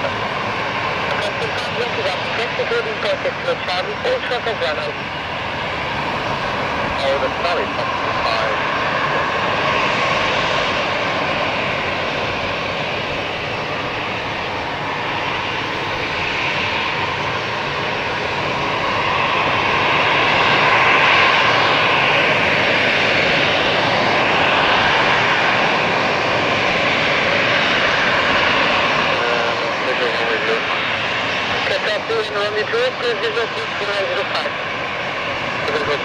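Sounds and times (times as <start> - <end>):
jet engines whining: 0.0 - 36.0.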